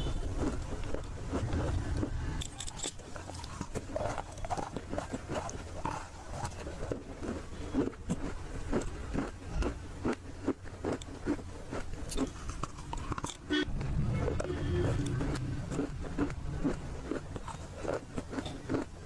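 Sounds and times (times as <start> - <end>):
chewing crunchy clay: 0.0 - 19.0.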